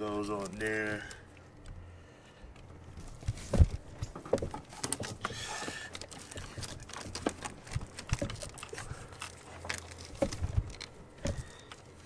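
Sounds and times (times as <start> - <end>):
hoses and fittings clicking: 0.0 - 1.8, 2.5 - 12.0.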